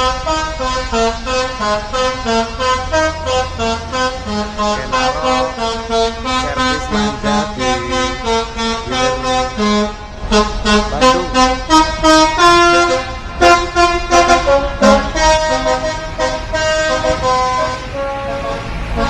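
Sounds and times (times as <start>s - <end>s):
musical bus air horns: 0.0s - 19.0s.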